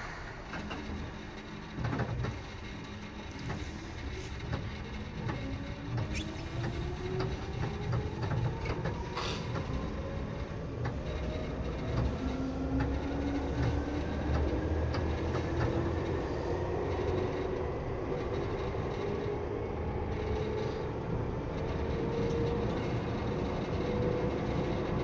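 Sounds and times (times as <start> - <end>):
electric train rumbling: 0.0 - 25.0
train motor whine: 0.0 - 25.0
wheels clicking over rails: 0.0 - 25.0.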